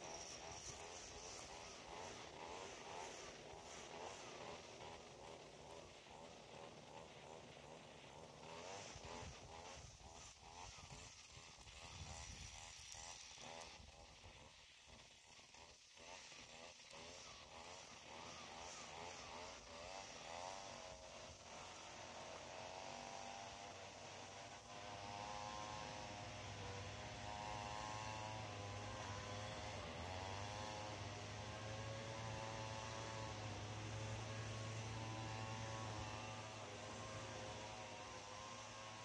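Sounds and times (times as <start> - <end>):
string trimmer engine revving: 0.0 - 39.0.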